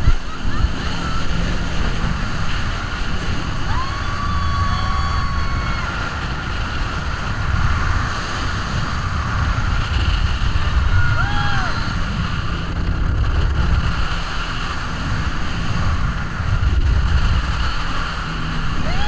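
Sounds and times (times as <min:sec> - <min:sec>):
speedboat engine running: 0:00.0 - 0:19.0
wind buffeting microphone: 0:00.0 - 0:19.0.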